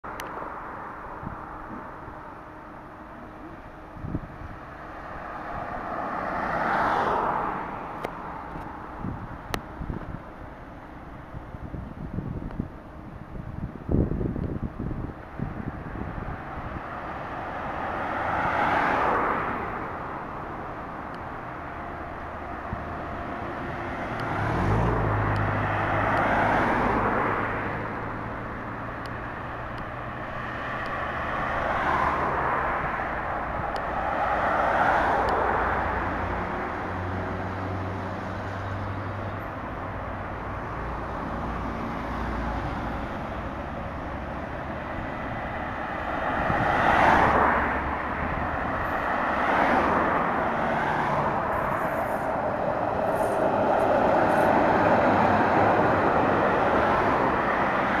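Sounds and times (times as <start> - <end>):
tram on tracks: 0.0 - 58.0
vehicles passing: 0.0 - 58.0.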